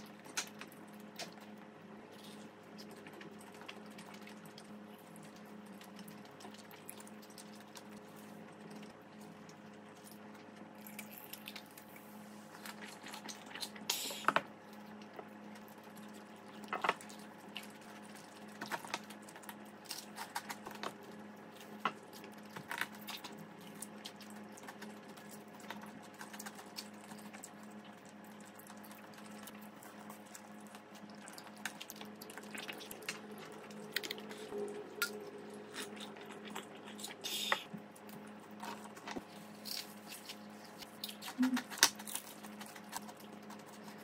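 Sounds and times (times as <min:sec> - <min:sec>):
steady low hum: 0:00.0 - 0:44.0
wet chewing and mouth sounds: 0:00.0 - 0:44.0.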